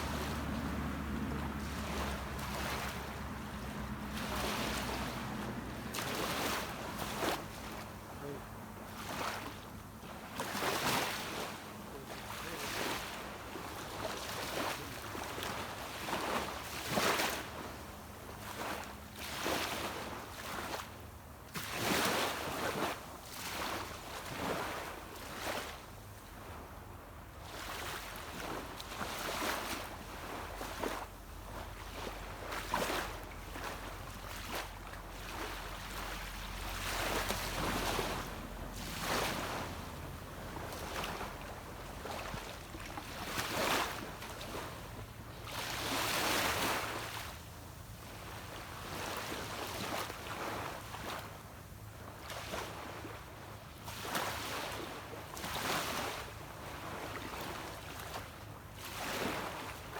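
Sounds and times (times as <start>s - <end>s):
waves washing onto beach: 0.0s - 59.9s.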